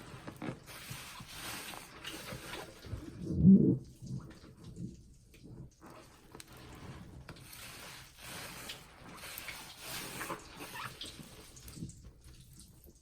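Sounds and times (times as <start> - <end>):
lather fizzing and crackling: 0.0 - 13.0
soapy sponge squeezed by hand: 0.0 - 13.0.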